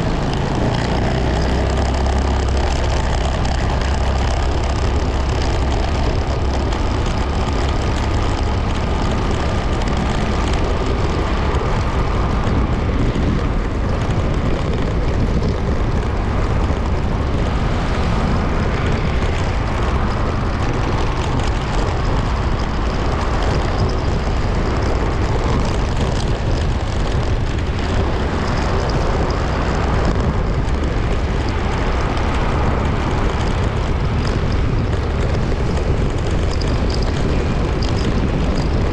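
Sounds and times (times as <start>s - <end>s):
motorcycle engine: 0.0s - 38.9s
wind rushing on microphone: 0.0s - 38.9s.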